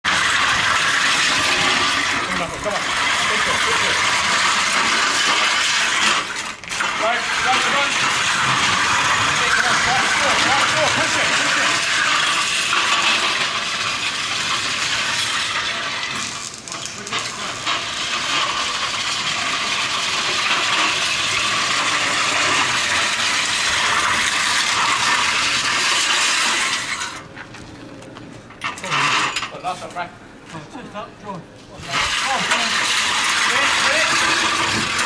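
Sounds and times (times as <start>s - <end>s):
sled runners scraping on concrete: 0.0s - 30.6s, 31.6s - 35.0s.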